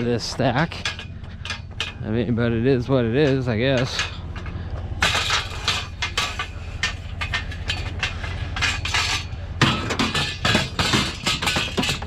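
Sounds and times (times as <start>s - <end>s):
scrap metal clanking and scraping: 0.0s - 12.0s
steady low hum: 0.0s - 12.0s.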